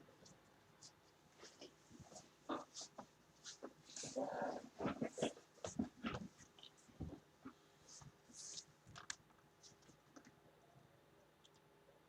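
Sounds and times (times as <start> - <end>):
soft rustles: 0.1 - 10.3.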